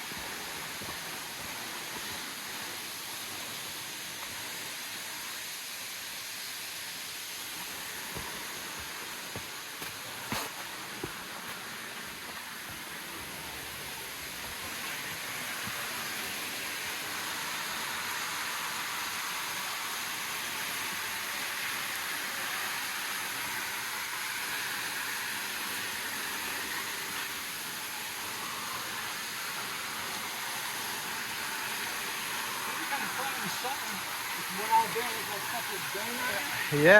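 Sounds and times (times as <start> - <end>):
rushing water: 0.0 - 36.9.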